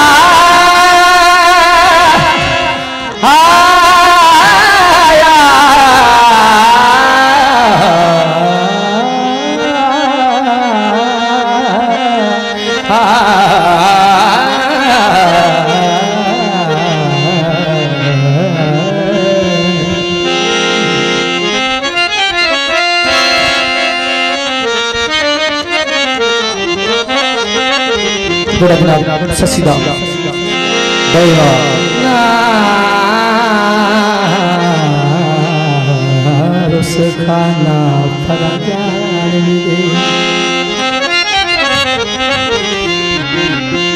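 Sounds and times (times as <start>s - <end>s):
man singing long held notes: 0.0s - 24.8s, 27.1s - 43.9s
folk instrumental accompaniment: 0.0s - 43.9s.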